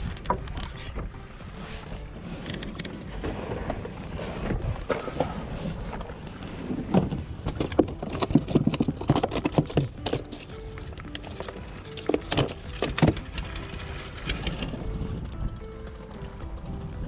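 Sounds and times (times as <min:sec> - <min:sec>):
wind on microphone: 0:00.0 - 0:10.0, 0:12.6 - 0:17.0.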